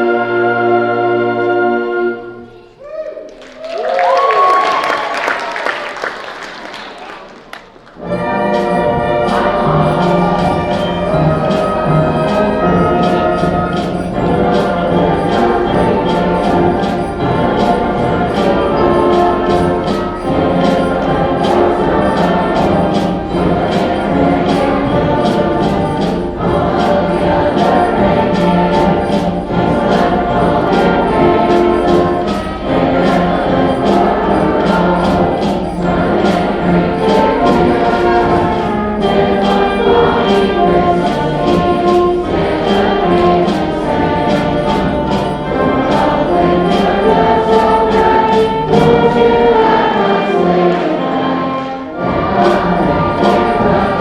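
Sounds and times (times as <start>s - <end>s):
steady percussion beat: 8.0s - 51.3s, 52.0s - 54.0s
band playing held wind chords: 8.0s - 54.0s.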